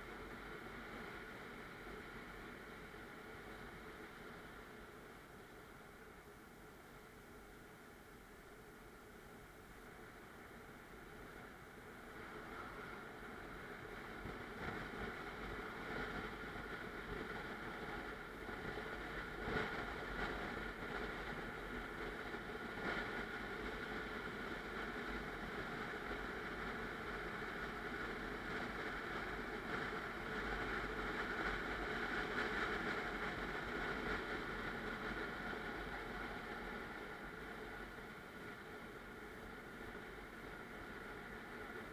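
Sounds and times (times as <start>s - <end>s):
road and tyre noise: 0.0s - 41.9s.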